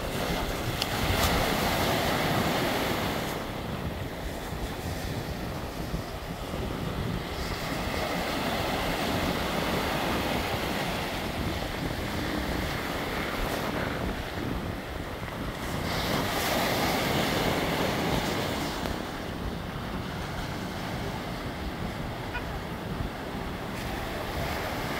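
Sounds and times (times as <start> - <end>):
waves breaking on rocky shore: 0.0 - 24.9
wind buffeting microphone: 0.0 - 24.9.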